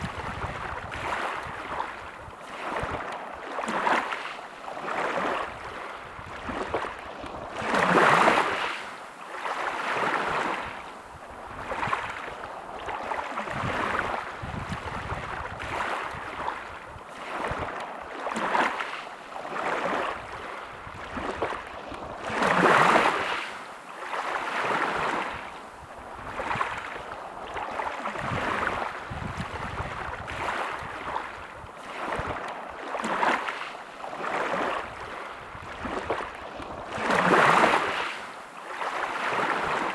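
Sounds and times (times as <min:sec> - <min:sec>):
bigger waves breaking: 0:00.0 - 0:39.9
small sea waves washing: 0:00.0 - 0:39.9.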